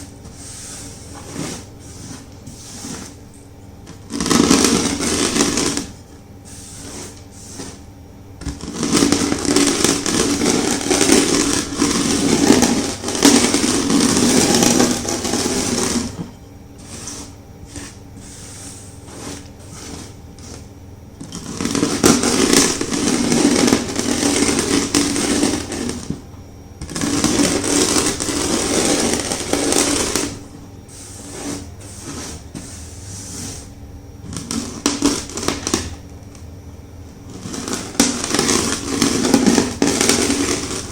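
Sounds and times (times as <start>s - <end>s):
rolling pin crushing chalk: 0.0s - 36.4s, 37.1s - 40.9s.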